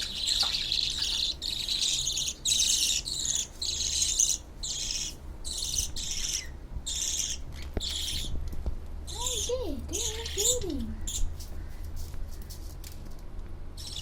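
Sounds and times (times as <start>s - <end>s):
baby birds begging calls: 0.0s - 8.4s, 9.0s - 11.8s, 13.8s - 14.0s.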